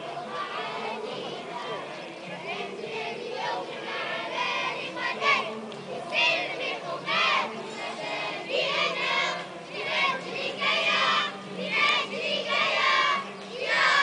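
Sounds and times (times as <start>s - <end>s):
people singing in unison: 0.0s - 14.0s.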